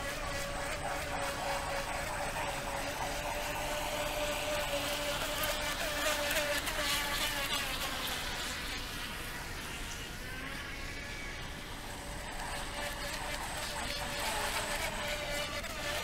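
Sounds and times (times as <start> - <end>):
model boat motor whining: 0.0 - 16.0.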